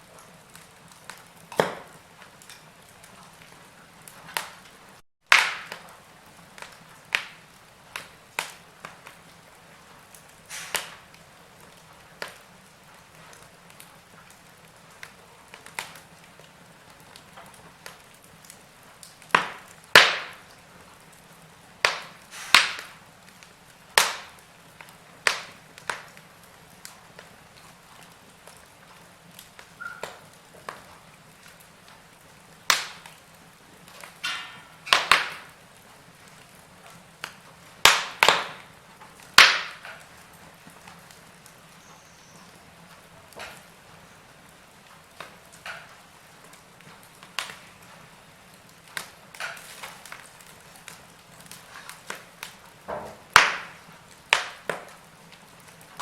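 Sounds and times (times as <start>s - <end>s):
campfire crackling: 0.0s - 56.0s
faint steady hiss: 0.0s - 56.0s.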